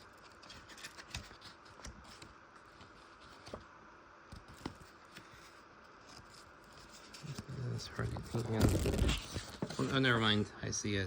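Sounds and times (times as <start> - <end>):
soft paper rustles: 0.0 - 3.7, 4.3 - 10.5.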